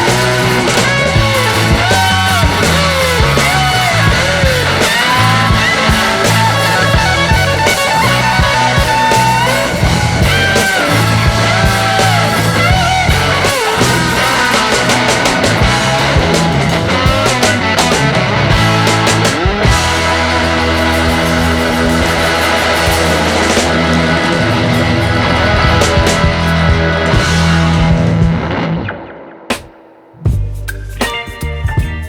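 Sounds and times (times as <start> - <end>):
rock pop song: 0.0 - 29.8.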